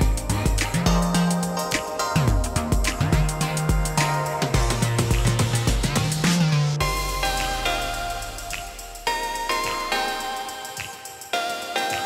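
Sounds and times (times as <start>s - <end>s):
background music with beat and bass: 0.0s - 12.0s.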